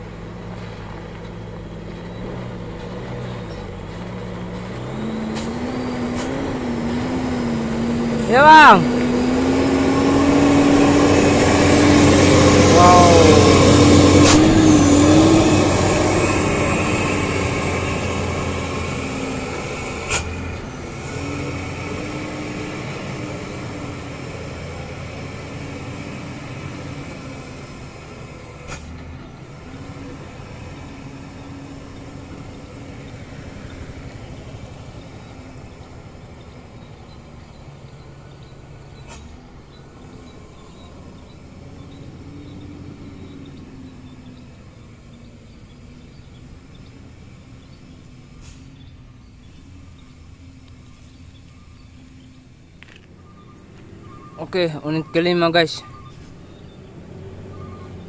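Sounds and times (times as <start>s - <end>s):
diesel truck engine labouring: 0.0s - 58.0s.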